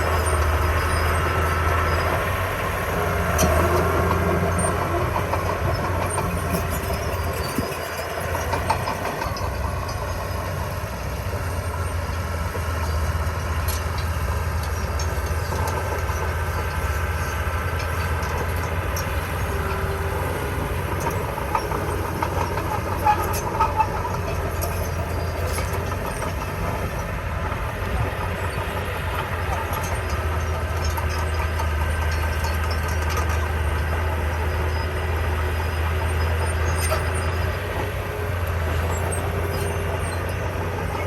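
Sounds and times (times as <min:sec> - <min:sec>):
bulldozer diesel engine running: 0:00.0 - 0:41.0
steel tracks clanking: 0:00.0 - 0:41.0.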